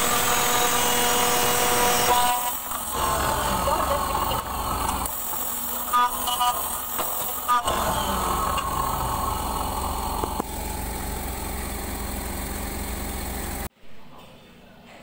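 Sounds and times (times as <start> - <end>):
milling machine cutting metal: 0.0 - 12.2.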